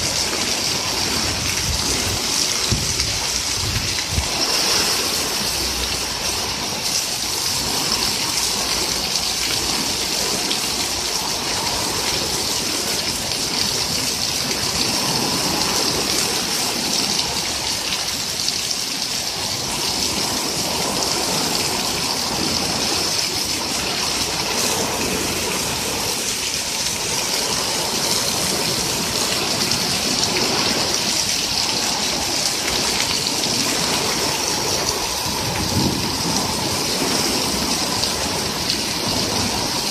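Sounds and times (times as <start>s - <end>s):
heavy rain on lawn and concrete: 0.0s - 39.9s
water pouring off roof: 0.0s - 39.9s.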